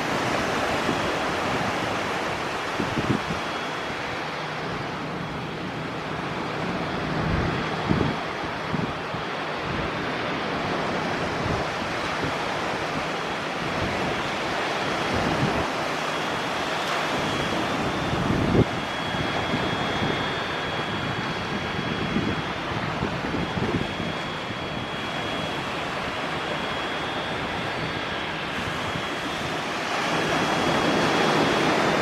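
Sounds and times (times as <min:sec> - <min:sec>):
faint high whine: 0:00.0 - 0:32.0
steady rushing noise: 0:00.0 - 0:32.0
wind buffeting microphone: 0:00.0 - 0:32.0.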